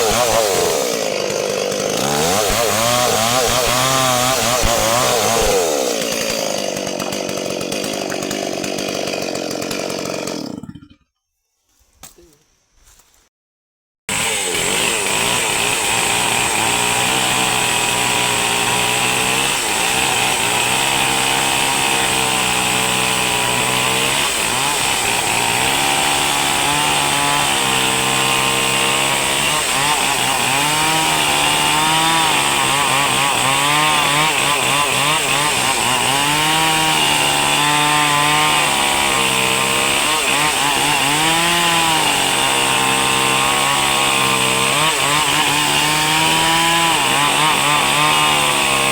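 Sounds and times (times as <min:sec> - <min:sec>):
small engine revving: 0:00.0 - 0:10.6, 0:14.1 - 0:48.9.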